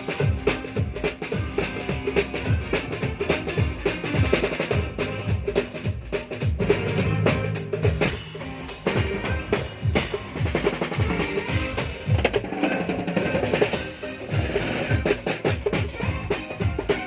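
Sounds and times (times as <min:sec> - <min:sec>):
drum kit groove: 0:00.0 - 0:17.0.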